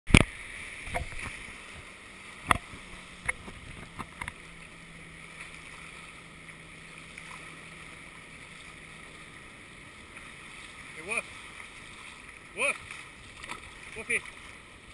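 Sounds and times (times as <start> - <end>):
surf washing at waterline: 0.1 - 14.9.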